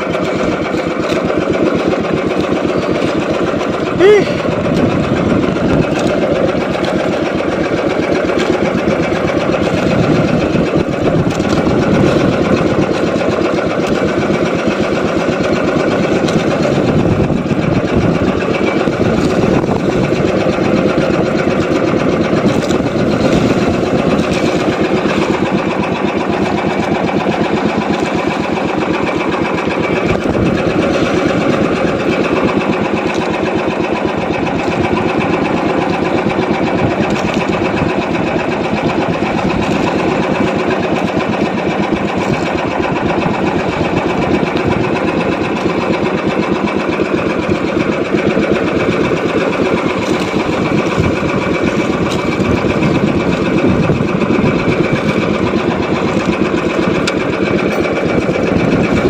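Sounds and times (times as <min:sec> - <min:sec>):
boat engine chugging: 0:00.0 - 0:59.0.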